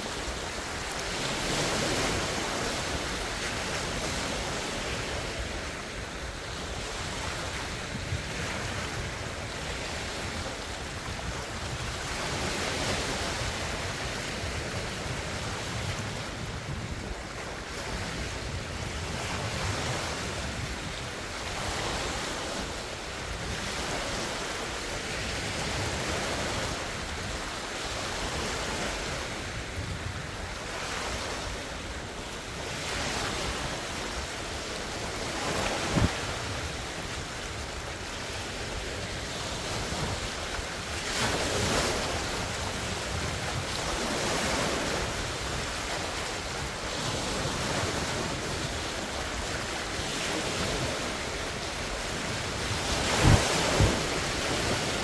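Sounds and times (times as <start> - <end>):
waves washing and splashing: 0.0 - 55.0
wind on microphone: 0.0 - 55.0.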